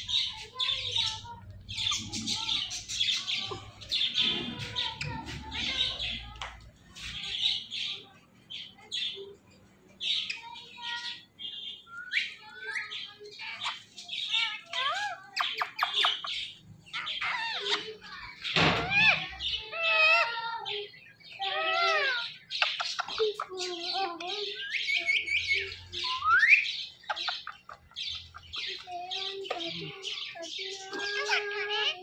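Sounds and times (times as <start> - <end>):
parakeets calling: 0.0 - 32.0.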